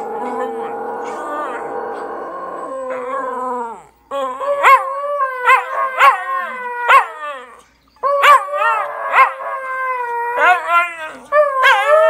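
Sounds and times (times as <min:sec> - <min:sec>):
dogs howling: 0:00.0 - 0:12.0.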